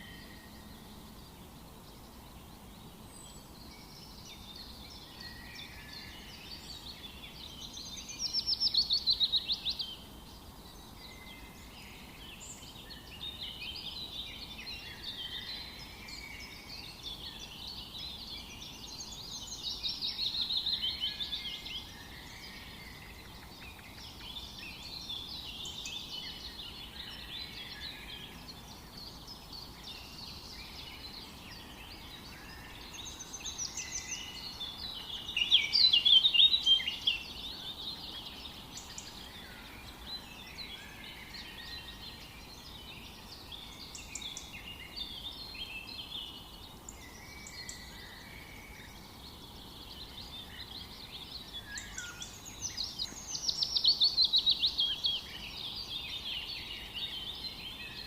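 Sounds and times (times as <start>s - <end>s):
birds singing and chirping: 0.0s - 58.0s
faint background hiss: 0.0s - 58.0s.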